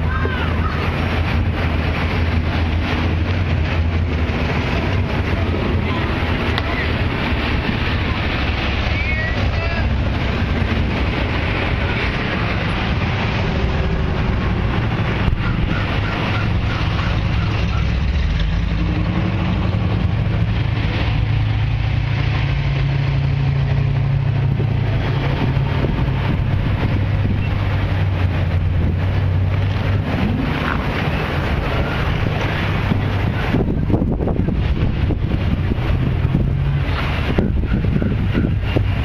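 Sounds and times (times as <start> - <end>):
car engines droning past: 0.0 - 39.0
wind buffeting microphone: 0.0 - 39.0.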